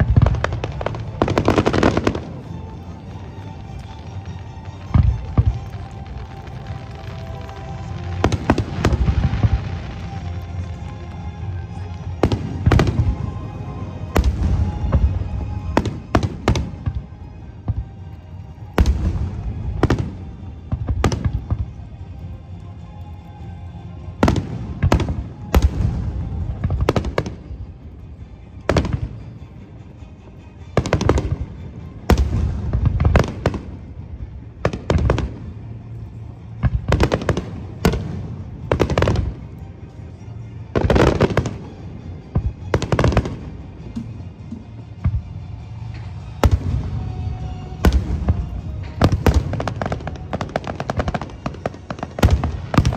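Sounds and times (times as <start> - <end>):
music playing: 0.0 - 52.9.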